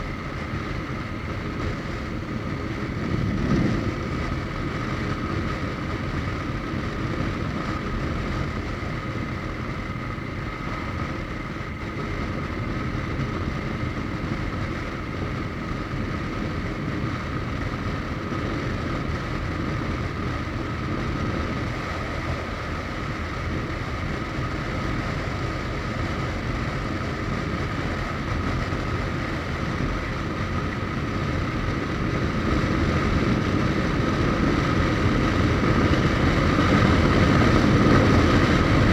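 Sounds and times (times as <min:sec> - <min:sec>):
motorcycle engine cruising: 0:00.0 - 0:38.9
wind rushing over microphone: 0:00.0 - 0:38.9.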